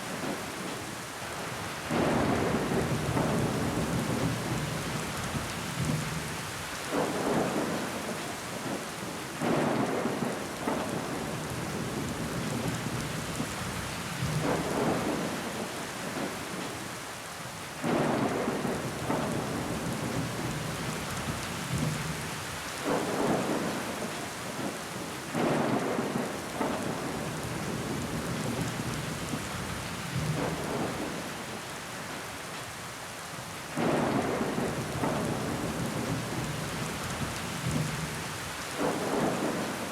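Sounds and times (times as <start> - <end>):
rain pattering on window glass: 1.7 - 16.8, 17.8 - 32.2, 33.8 - 39.9.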